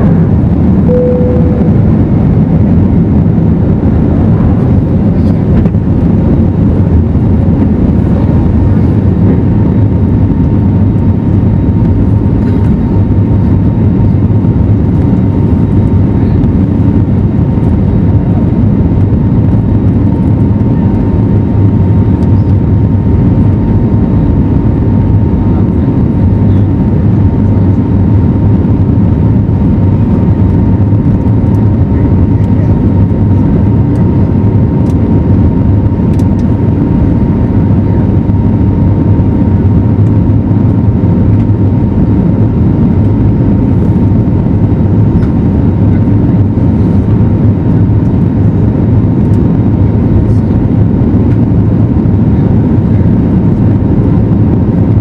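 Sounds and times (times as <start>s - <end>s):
airplane cabin engine roar: 0.0s - 55.0s
constant engine whine: 0.0s - 55.0s.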